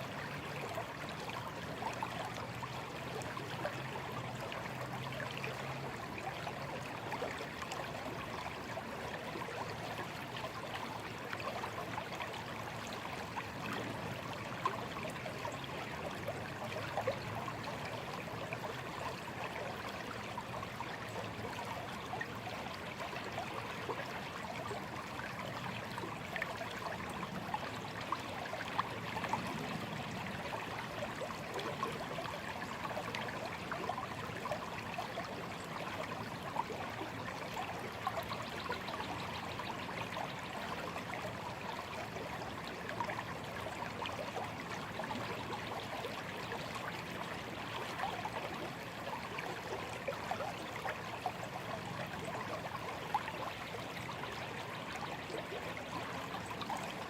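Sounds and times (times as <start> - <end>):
shallow stream trickling: 0.0 - 57.0.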